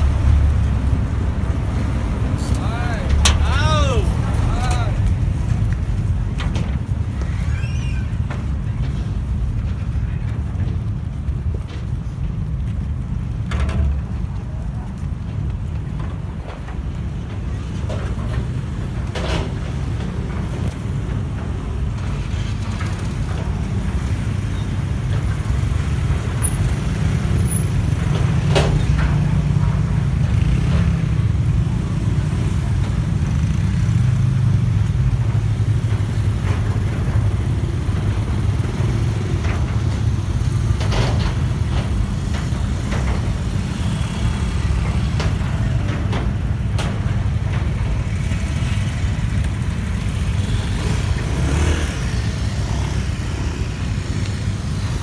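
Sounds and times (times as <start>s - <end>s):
low engine rumble: 0.0s - 55.0s.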